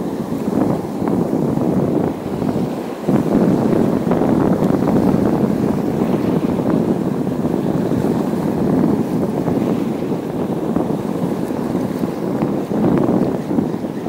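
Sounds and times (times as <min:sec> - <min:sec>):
sea surf washing on shore: 0:00.0 - 0:14.0
wind buffeting microphone: 0:00.0 - 0:14.0.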